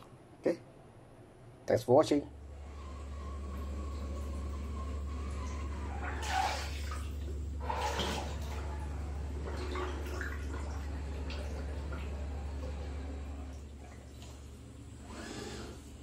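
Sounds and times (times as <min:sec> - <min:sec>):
steady low hum: 0:00.0 - 0:16.0
water sloshing and splashing: 0:02.4 - 0:15.8.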